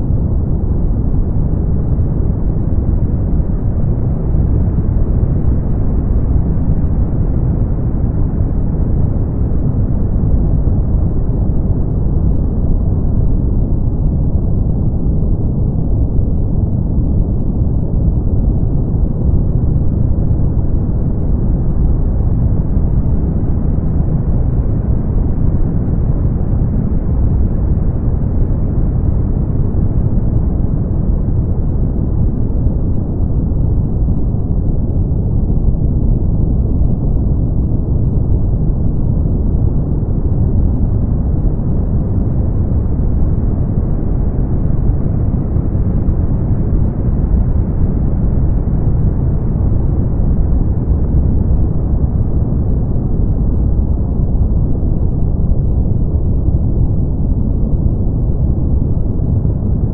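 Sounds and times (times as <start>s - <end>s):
deep muffled brown noise: 0.0s - 59.9s.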